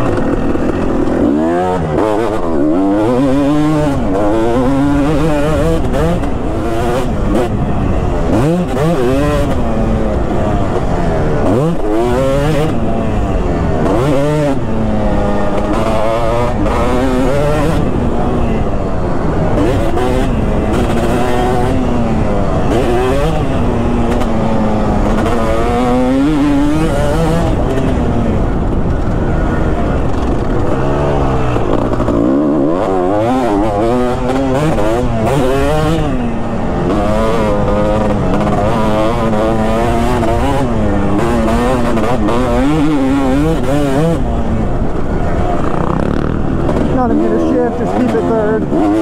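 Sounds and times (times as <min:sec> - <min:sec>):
two-stroke engine revving: 0:00.0 - 0:49.0.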